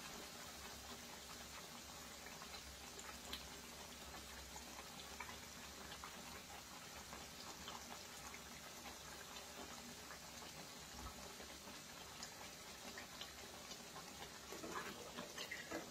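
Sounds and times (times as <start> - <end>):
gravy bubbling and popping: 0.0 - 15.9.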